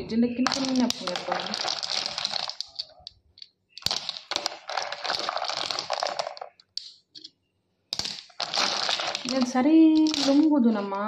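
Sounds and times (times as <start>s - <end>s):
clam shells clattering: 0.5s - 7.3s, 8.0s - 10.5s.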